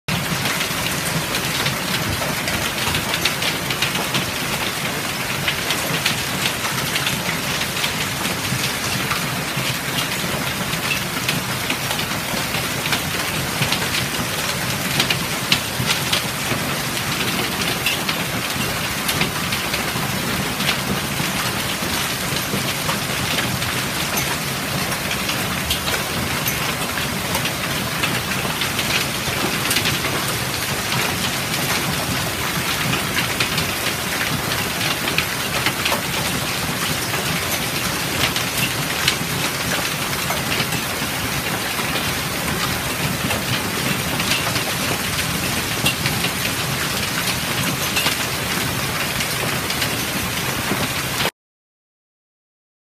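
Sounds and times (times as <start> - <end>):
rain: 0.1 - 51.3.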